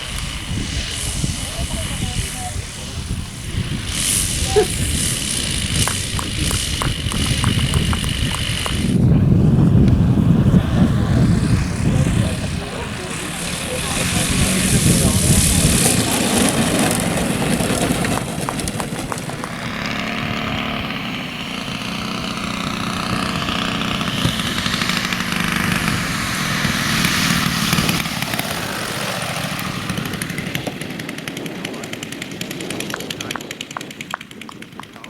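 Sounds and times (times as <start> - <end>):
model airplane engine running: 0.0 - 35.0.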